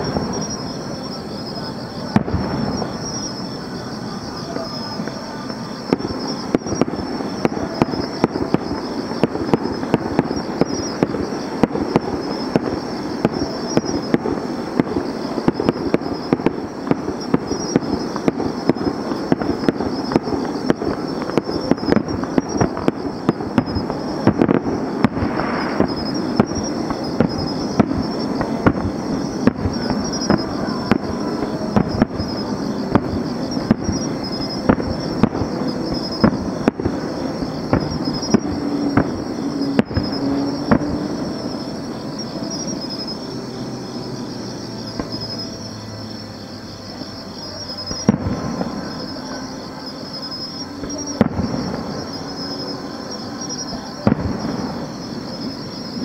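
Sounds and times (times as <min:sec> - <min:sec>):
continuous rumble: 0:00.0 - 0:56.0
distant fireworks popping and banging: 0:00.0 - 0:56.0.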